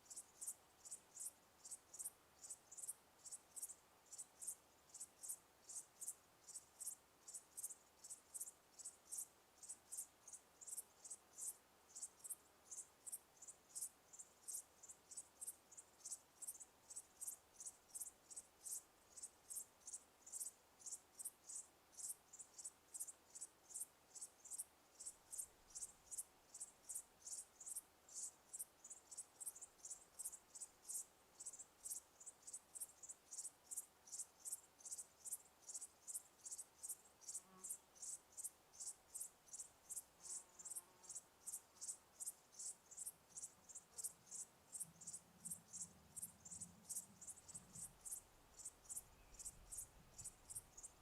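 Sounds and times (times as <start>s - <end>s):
cricket chirping: 0.0s - 51.0s.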